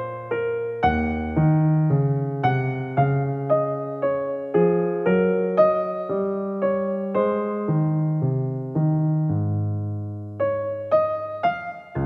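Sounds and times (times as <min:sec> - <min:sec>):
slow gentle piano melody: 0:00.0 - 0:12.0.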